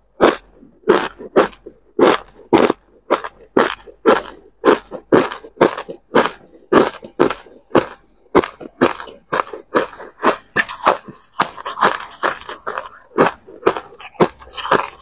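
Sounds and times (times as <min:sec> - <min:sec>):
chewing crushed ice: 0:00.0 - 0:15.0.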